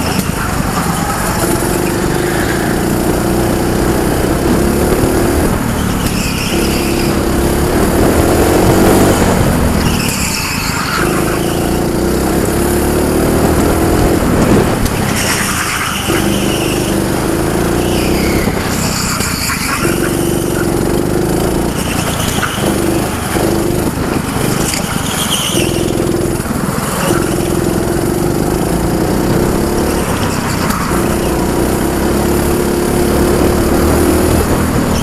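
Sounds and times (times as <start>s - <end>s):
go-kart engine: 0.0s - 35.0s
tyre squeals: 0.0s - 35.0s.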